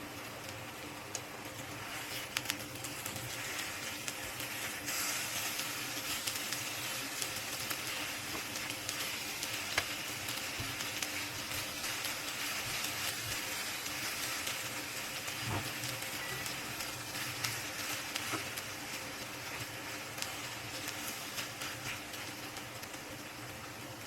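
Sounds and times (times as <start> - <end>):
oil sizzling in a frying pan: 0.0 - 24.0.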